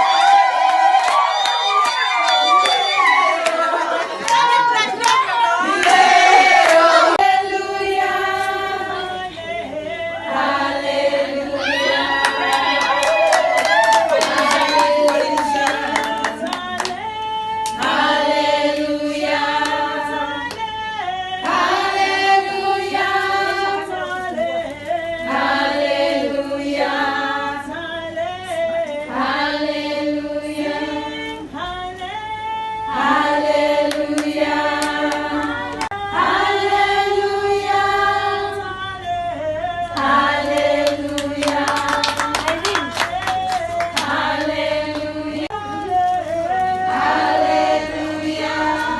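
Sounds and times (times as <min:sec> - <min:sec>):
voices singing in chorus: 0:00.0 - 0:48.9.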